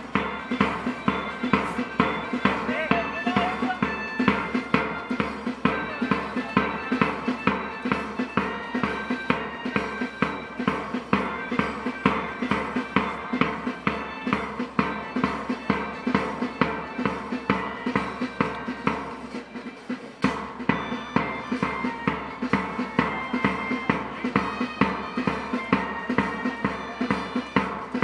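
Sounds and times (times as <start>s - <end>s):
drums steady beat: 0.0s - 28.0s
marching band playing: 0.0s - 28.0s.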